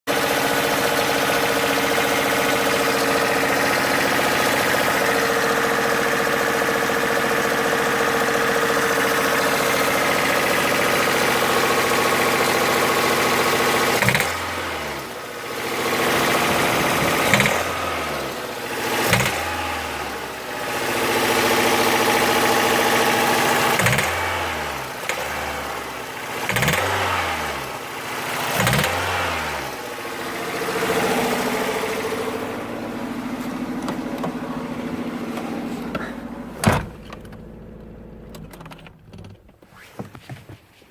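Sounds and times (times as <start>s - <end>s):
engine knock: 0.1s - 36.5s
car engine revving: 0.1s - 38.8s.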